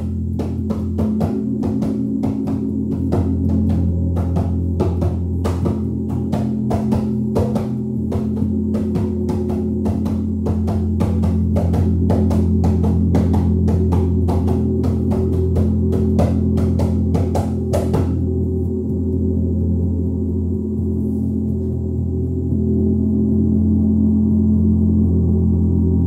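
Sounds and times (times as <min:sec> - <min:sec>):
rapid light mallet strikes: 0:00.0 - 0:21.0
gong droning: 0:00.0 - 0:26.0.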